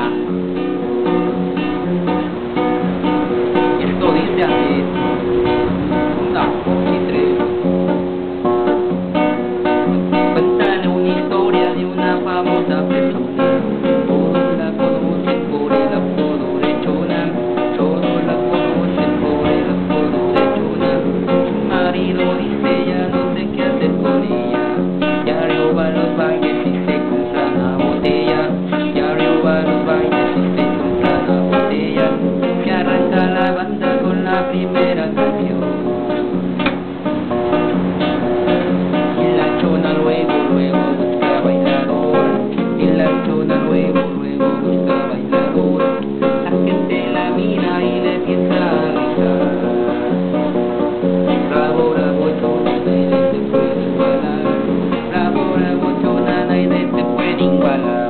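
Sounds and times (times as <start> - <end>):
man singing: 0.0 - 8.1, 9.8 - 36.4, 38.5 - 58.0
acoustic guitar strumming: 0.0 - 58.0.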